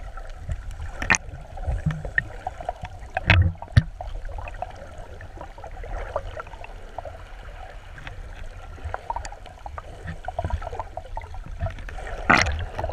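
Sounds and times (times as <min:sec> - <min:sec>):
small underwater clicks and crackles: 0:00.0 - 0:12.9
underwater rumble: 0:00.0 - 0:12.9.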